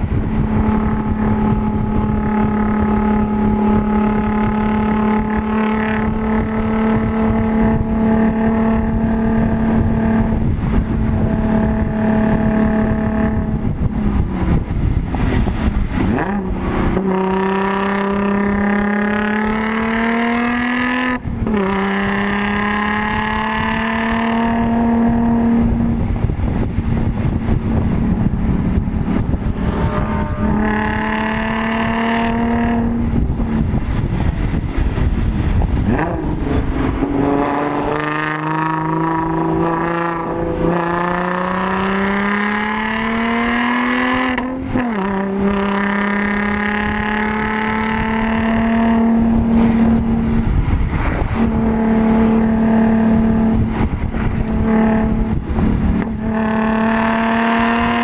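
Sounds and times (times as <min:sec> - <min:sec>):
car engine revving in cabin: 0:00.0 - 0:58.0.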